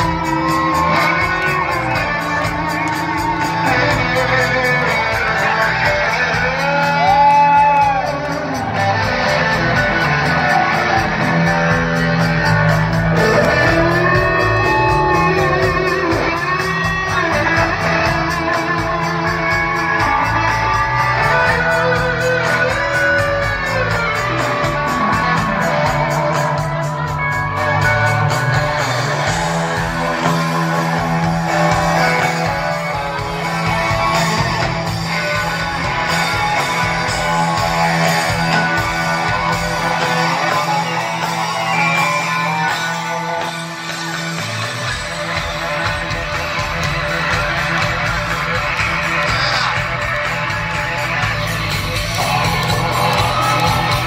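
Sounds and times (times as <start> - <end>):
electric guitar pitch bends: 0.0 - 54.0
rock band playing: 0.0 - 54.0.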